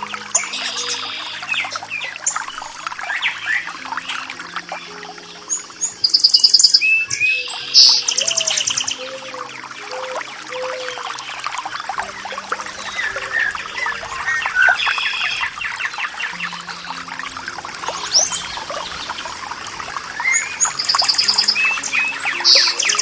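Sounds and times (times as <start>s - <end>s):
songbirds chirping: 0.0s - 23.0s
water trickling and dripping: 0.0s - 23.0s.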